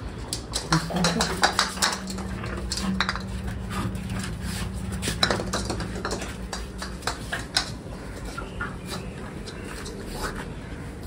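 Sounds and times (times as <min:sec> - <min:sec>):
dog paws tapping on concrete: 0:00.0 - 0:11.0
low steady hum: 0:00.0 - 0:11.0.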